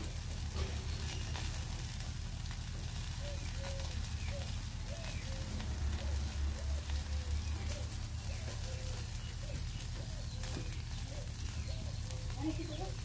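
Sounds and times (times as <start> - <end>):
charcoal grill crackling and sizzling: 0.0 - 13.0
low rumble: 0.0 - 13.0.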